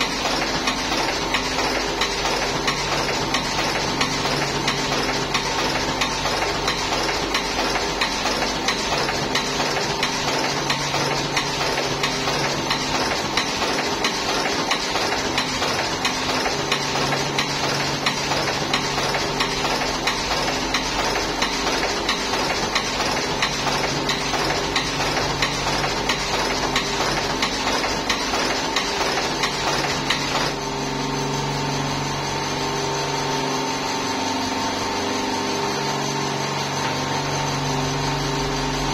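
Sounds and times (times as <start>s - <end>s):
machine rapid clicking: 0.0s - 38.9s.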